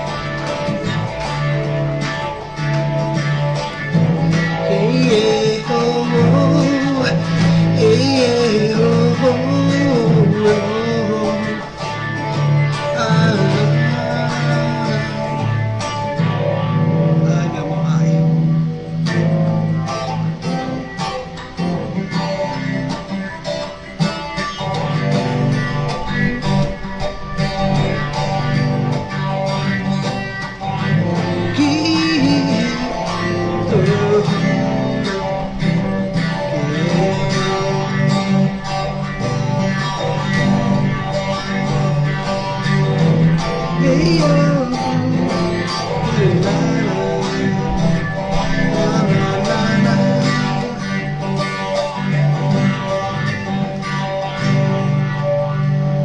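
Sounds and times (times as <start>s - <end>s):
electric guitar playing: 0.0s - 56.0s.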